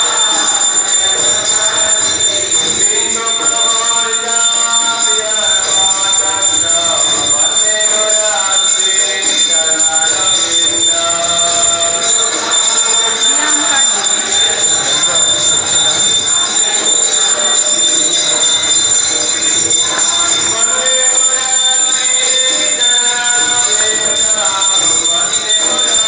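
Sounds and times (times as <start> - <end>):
devotional singing: 0.0 - 26.0
hand bell ringing: 0.0 - 26.0.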